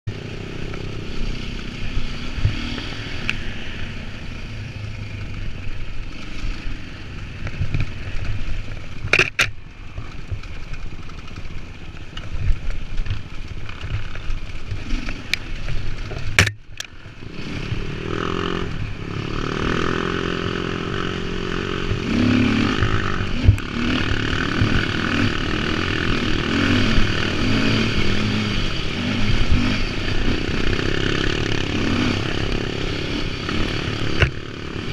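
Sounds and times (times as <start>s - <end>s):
dirt bike engine revving: 0.1s - 8.6s, 14.6s - 34.9s.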